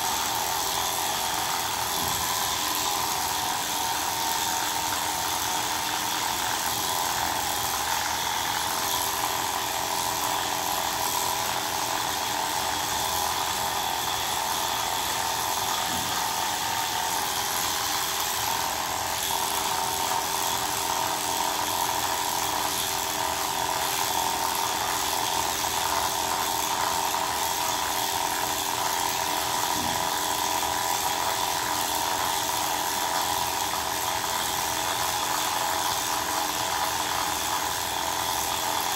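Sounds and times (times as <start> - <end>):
electric clippers buzzing: 0.0 - 38.9.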